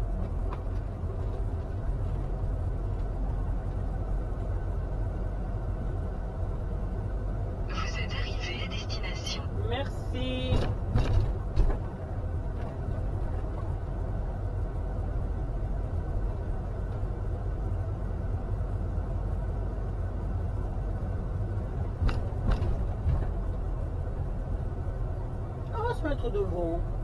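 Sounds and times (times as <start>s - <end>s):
engine and road rumble: 0.0s - 27.0s.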